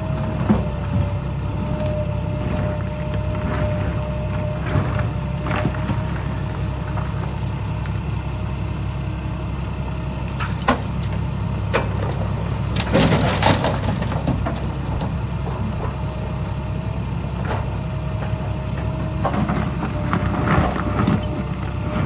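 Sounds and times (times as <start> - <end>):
construction machinery rumbling: 0.0 - 22.0.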